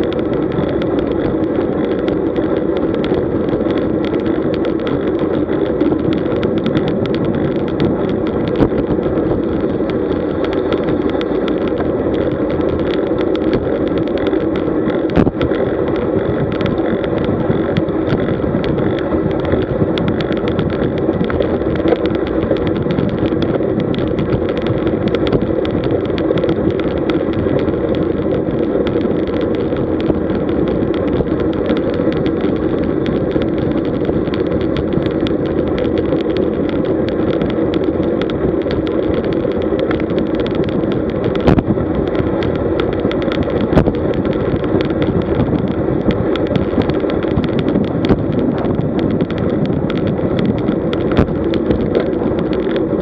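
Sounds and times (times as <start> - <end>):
road noise: 0.0 - 53.0
small clicks and rattles: 0.0 - 53.0.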